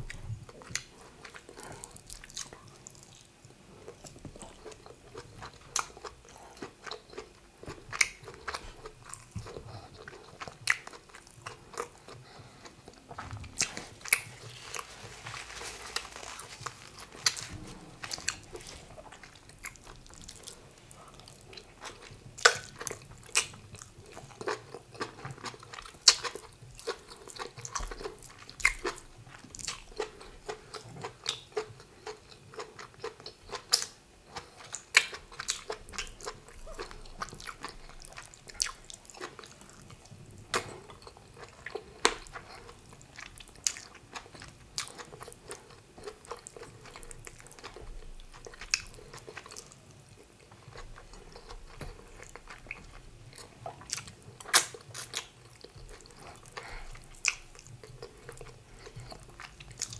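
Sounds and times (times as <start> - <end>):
chewing and mouth sounds: 0.0 - 59.9.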